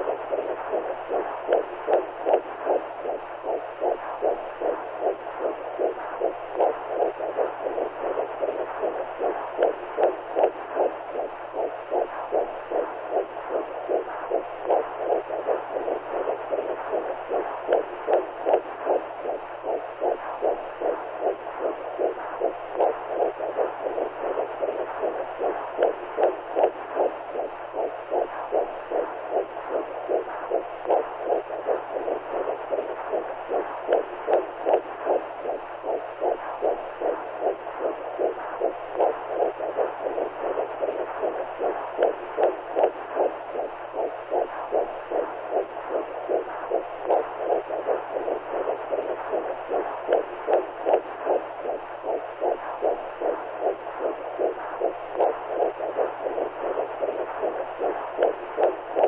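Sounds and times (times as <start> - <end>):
faint low hum: 0.0 - 59.0
whooshing heartbeat pulses: 0.0 - 59.0.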